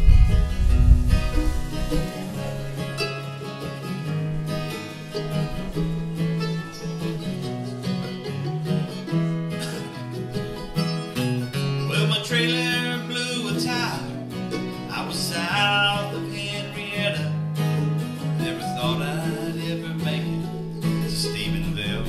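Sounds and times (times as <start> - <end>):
acoustic guitar: 0.0 - 22.0
mandolin: 0.0 - 22.0.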